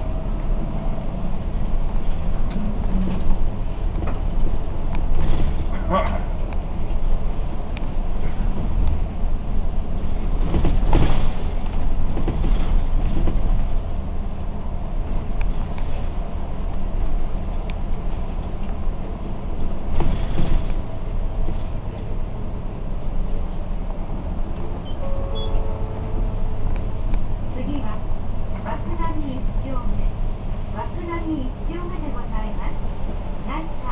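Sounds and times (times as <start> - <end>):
bus diesel engine running: 0.0 - 33.9.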